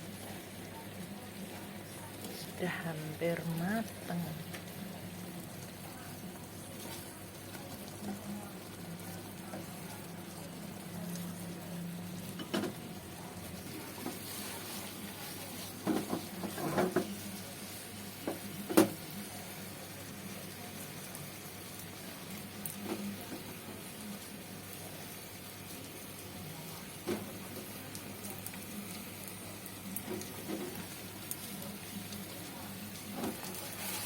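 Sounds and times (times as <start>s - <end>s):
tofu sizzling in oil: 0.0s - 34.0s.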